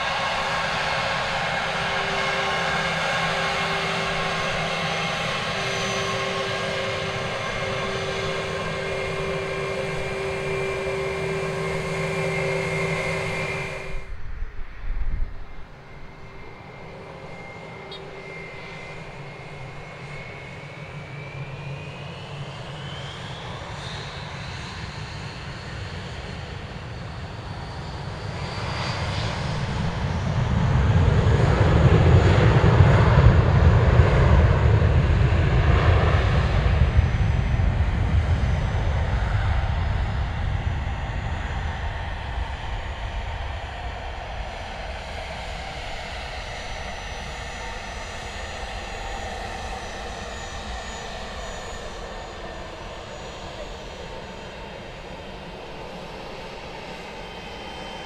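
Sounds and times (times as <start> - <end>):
jet airliner engines passing: 0.0 - 58.0
thin rising engine whine: 0.0 - 58.0.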